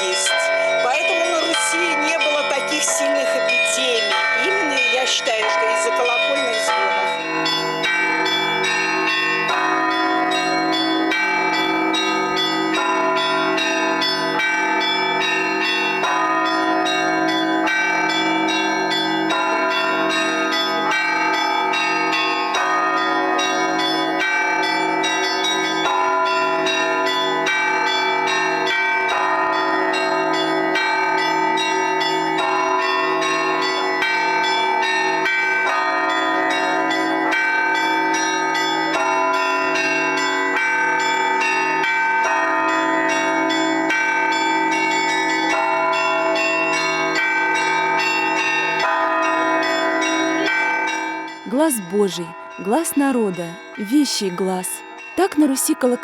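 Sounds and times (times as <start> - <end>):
deep bells ringing: 0.0 - 56.0.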